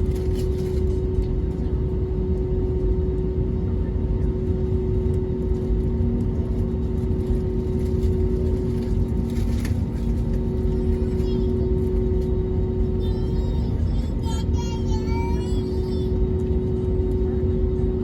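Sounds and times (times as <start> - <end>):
airplane cabin engine drone: 0.0 - 18.0.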